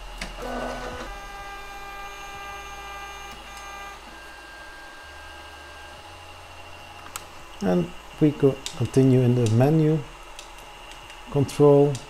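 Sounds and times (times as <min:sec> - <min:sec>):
stepper motors whining: 0:00.0 - 0:10.0.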